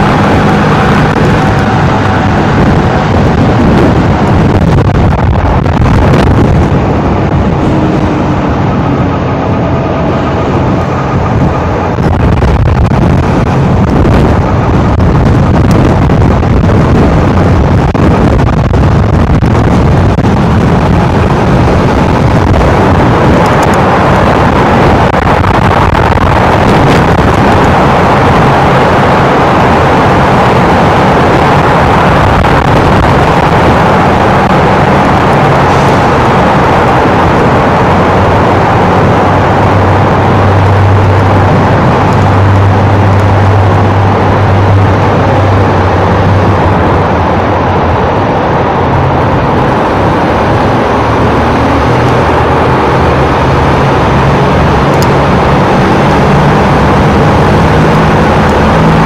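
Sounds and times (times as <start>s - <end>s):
motorcycle engine at speed: 0.0s - 59.0s
wind on microphone: 0.0s - 59.0s.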